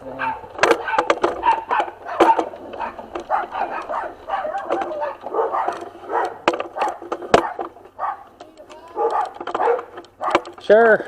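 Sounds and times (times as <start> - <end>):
dog barking: 0.1 - 8.3, 8.9 - 10.5
sharp metallic clicks: 0.5 - 11.0.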